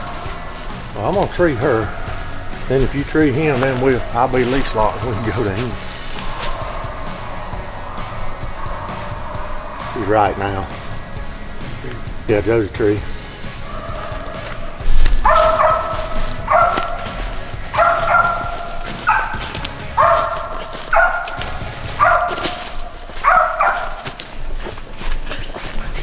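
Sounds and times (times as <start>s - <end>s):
dog barking: 0.0s - 10.9s, 13.6s - 24.8s.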